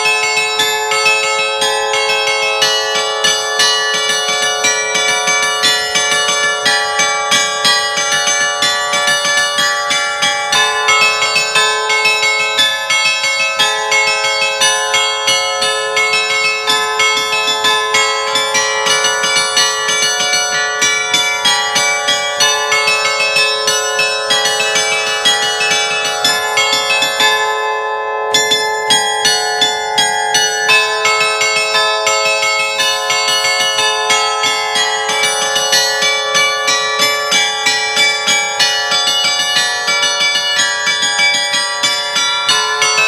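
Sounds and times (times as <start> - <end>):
carillon bells chiming: 0.0 - 43.0.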